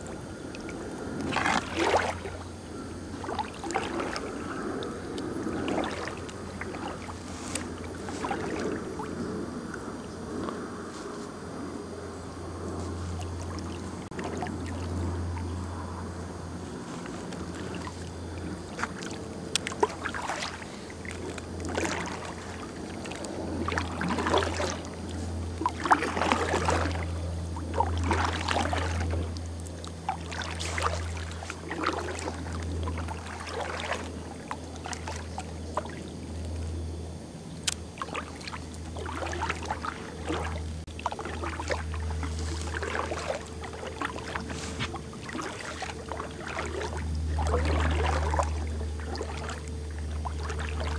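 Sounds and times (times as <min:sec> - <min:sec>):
paddle swishing through water: 0:00.0 - 0:50.9.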